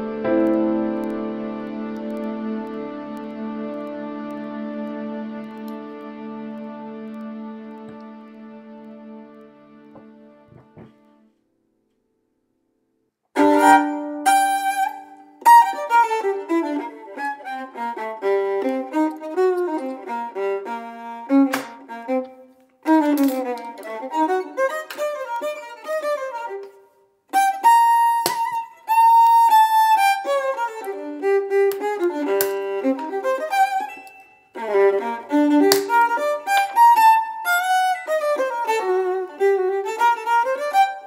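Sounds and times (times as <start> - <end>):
melodic instrumental music: 0.0 - 11.1, 13.4 - 41.0.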